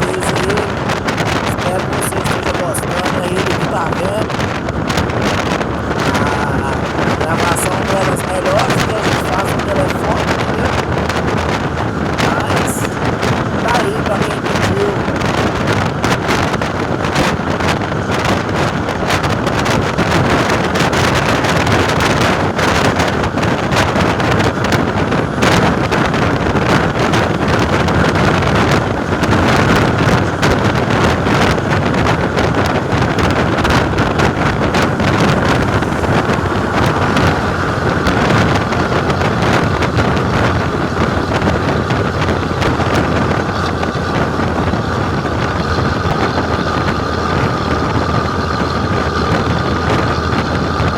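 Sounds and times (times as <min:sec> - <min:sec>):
bus diesel engine droning: 0:00.0 - 0:50.9
wind buffeting microphone: 0:00.0 - 0:50.9.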